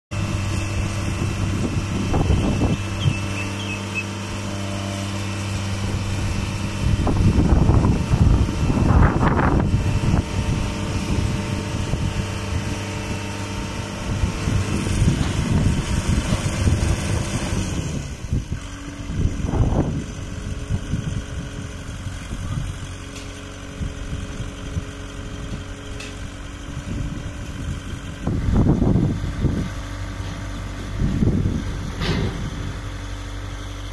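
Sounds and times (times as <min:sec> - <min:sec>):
diesel engines running: 0:00.1 - 0:33.9.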